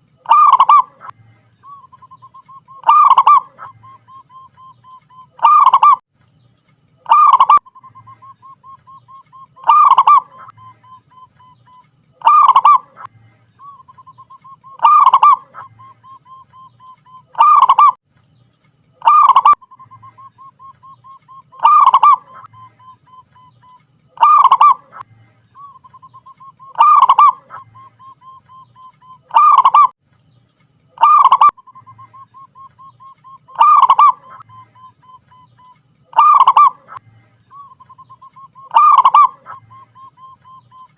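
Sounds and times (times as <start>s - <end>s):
dove cooing: 0.3s - 6.0s, 7.1s - 18.0s, 19.0s - 29.9s, 31.0s - 37.0s, 37.6s - 40.9s.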